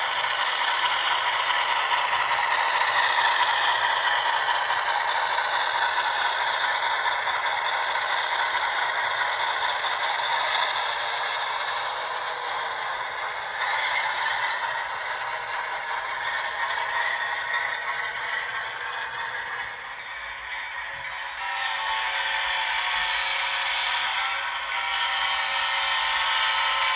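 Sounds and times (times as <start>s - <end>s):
model train wheels clattering: 0.0s - 26.9s.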